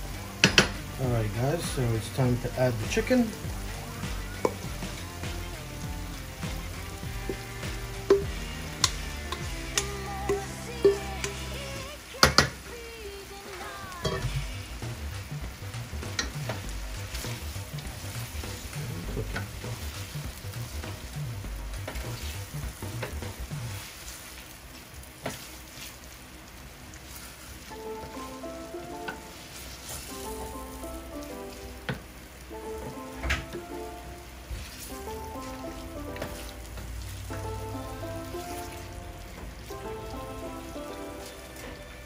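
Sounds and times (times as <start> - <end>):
chicken sizzling in a pot: 0.0 - 42.0.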